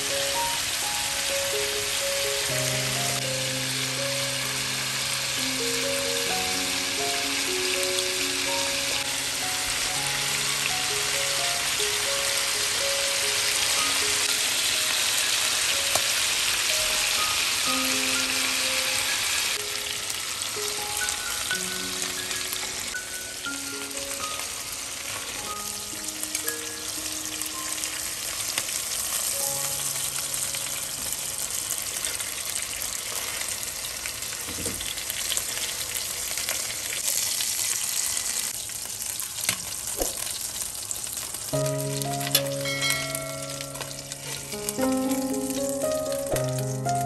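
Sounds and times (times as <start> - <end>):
soft background music: 0.0 - 33.0, 41.5 - 47.0
chicken sizzling in a pan: 0.0 - 47.0.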